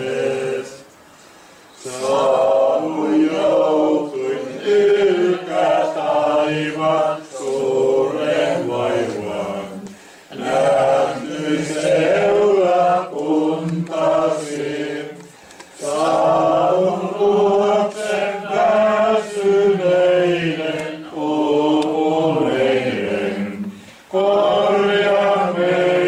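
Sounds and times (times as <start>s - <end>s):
group singing a hymn unaccompanied: 0.0s - 26.0s.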